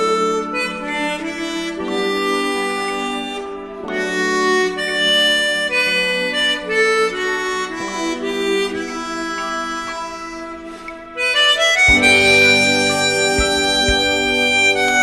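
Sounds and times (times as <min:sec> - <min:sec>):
harmonica playing slow melody: 0:00.0 - 0:15.0.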